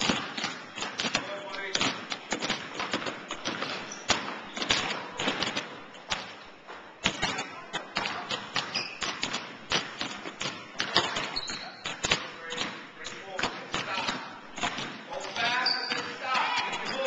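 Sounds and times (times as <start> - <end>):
basketballs dribbled on hardwood: 0.0 - 17.0.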